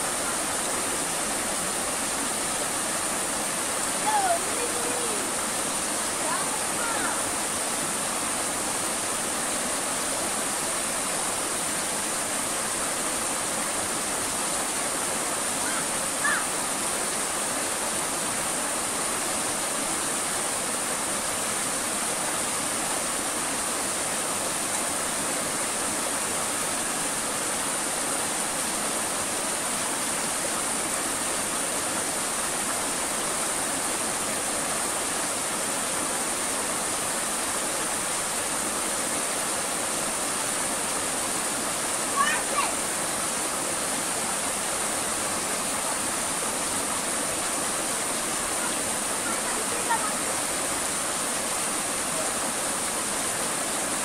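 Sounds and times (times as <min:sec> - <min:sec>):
river water running over rocks: 0:00.0 - 0:54.0.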